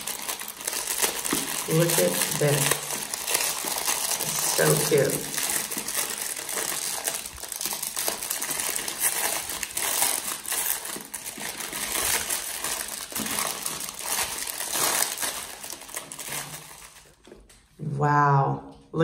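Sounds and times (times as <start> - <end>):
plastic wrapping crinkling: 0.0 - 17.8.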